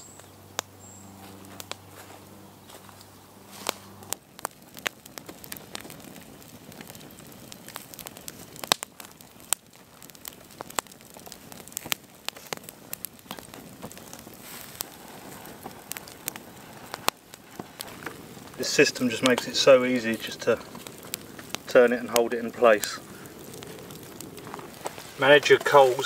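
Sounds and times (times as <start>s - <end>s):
campfire crackling and popping: 0.0s - 26.0s
hiss of flame: 5.1s - 26.0s.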